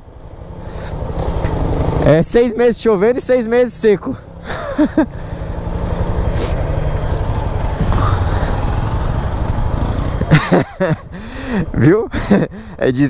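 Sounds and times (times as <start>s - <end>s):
motorcycle engine accelerating: 0.2s - 11.9s.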